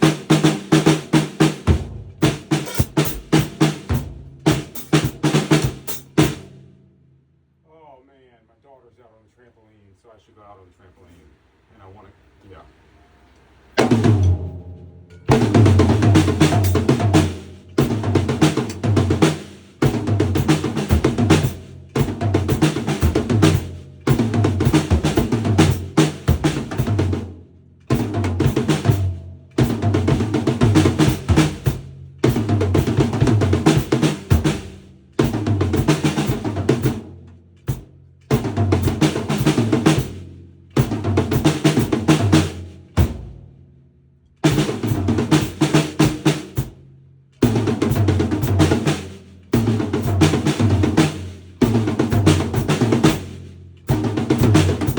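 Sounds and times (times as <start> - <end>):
drum kit fills: 0.0 - 6.8, 13.8 - 43.6, 44.4 - 54.9.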